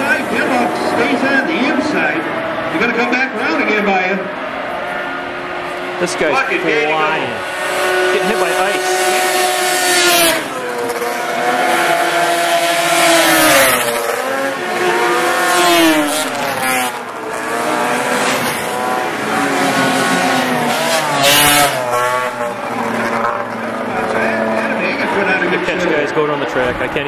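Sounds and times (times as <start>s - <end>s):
snowmobile engines racing past: 0.0s - 27.0s.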